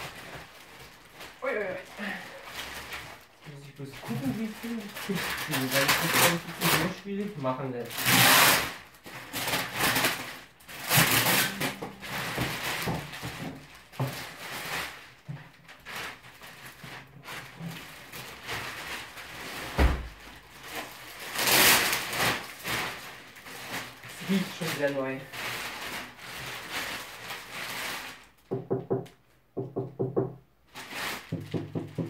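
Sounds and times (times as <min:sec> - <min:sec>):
plastic wrap rustling and crinkling: 0:00.0 - 0:29.3, 0:30.2 - 0:32.0.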